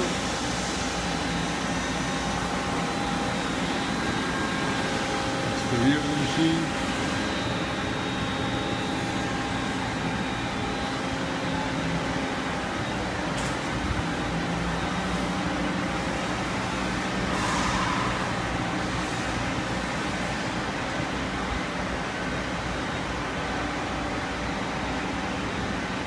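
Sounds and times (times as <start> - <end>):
machinery hum and hiss: 0.0 - 26.0.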